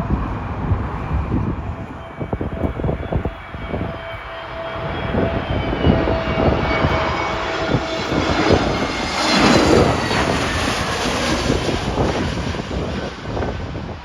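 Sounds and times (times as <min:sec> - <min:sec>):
jet airliner passing overhead: 0:00.0 - 0:14.0
wind buffeting microphone: 0:00.0 - 0:14.0.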